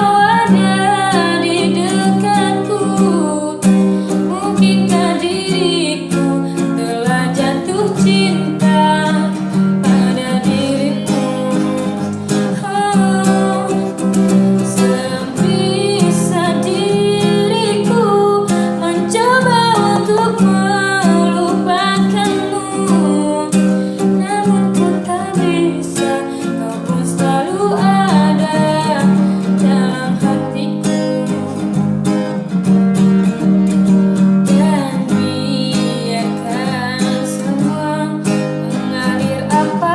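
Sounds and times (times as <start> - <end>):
person singing: 0.0 - 31.8, 34.4 - 39.9
acoustic guitar strumming: 0.0 - 39.9.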